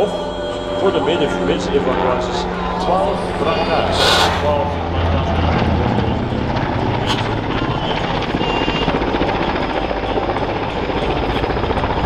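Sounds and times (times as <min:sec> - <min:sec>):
turbine engines whining: 0:00.0 - 0:12.0
helicopter rotor chopping: 0:00.7 - 0:12.0.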